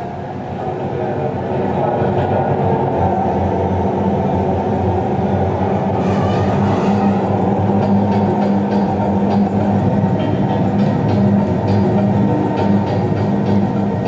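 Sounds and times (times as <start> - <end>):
heavy machinery droning: 0.0 - 14.0.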